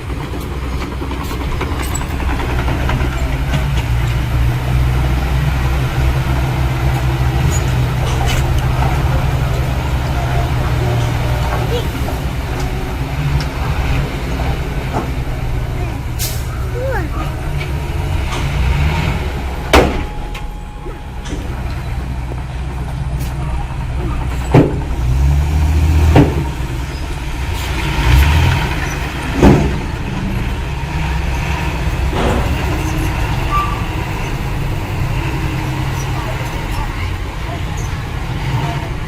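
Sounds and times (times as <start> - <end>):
heavy diesel machinery droning: 0.0 - 39.0.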